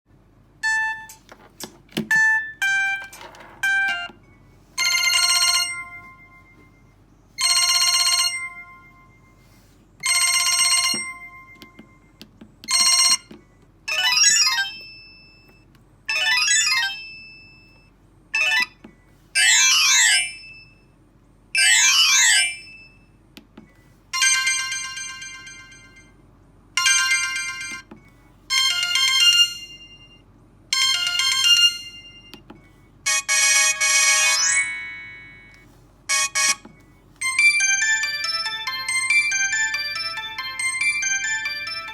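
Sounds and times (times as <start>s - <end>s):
mobile phone ringtone melody: 0.6s - 1.3s, 2.1s - 21.0s, 21.6s - 23.2s, 24.1s - 26.2s, 26.8s - 32.4s, 33.0s - 41.9s.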